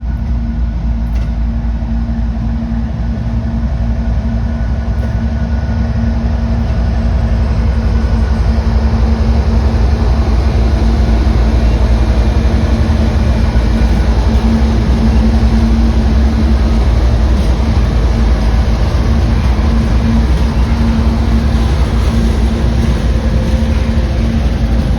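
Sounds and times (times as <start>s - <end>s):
train engine hum: 0.0s - 24.9s
train rumbling by: 0.0s - 24.9s.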